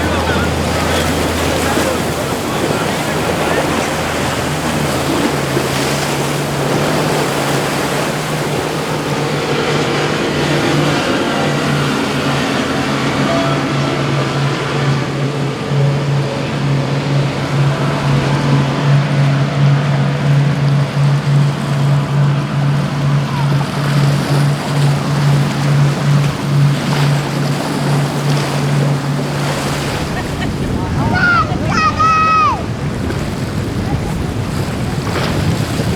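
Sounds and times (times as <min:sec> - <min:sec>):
motorboat engines throbbing: 0:00.0 - 0:35.9
waves rushing: 0:00.0 - 0:35.9
wind: 0:00.0 - 0:35.9.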